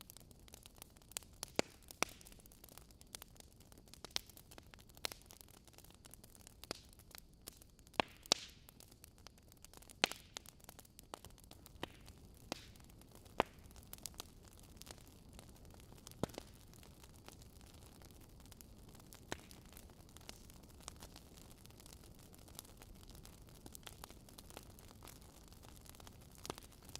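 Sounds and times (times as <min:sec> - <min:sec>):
faint hiss of fire: 0:00.0 - 0:26.9
log fire crackling: 0:00.0 - 0:26.9.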